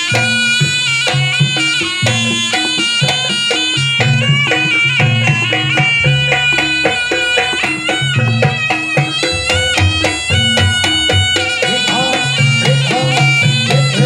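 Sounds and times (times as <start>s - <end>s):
drum rhythm: 0.0s - 14.0s
shrill reed melody: 0.0s - 14.0s.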